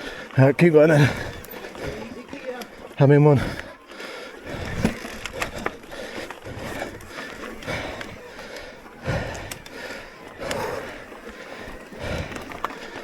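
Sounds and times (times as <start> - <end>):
tyres crunching on dirt: 0.0 - 13.0.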